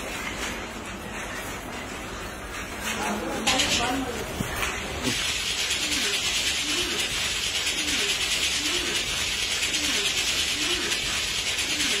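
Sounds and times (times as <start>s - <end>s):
rapid mechanical clicking and rattling: 0.0s - 12.0s.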